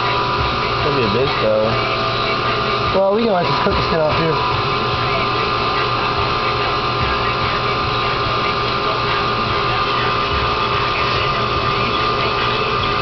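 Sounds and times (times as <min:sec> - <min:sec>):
high-pitched whine: 0:00.0 - 0:13.0
machine drone: 0:00.0 - 0:13.0.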